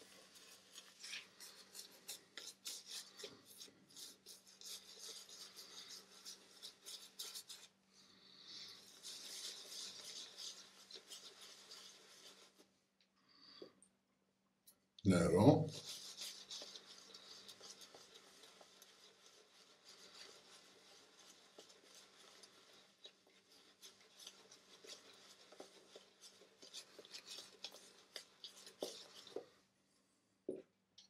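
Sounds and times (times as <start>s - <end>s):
shaving brush lathering: 0.0s - 12.7s, 15.7s - 29.6s.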